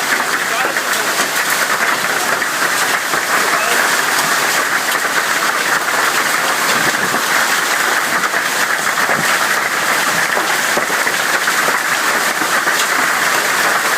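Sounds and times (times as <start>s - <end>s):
hail clattering: 0.0s - 13.9s.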